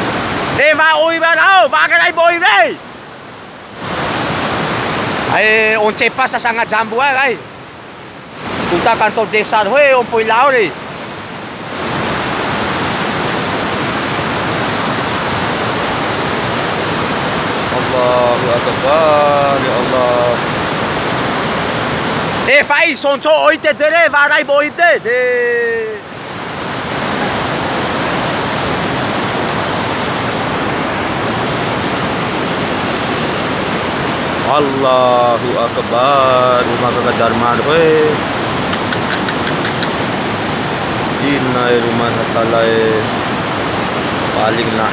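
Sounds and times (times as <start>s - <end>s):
floodwater rushing: 0.0s - 44.9s.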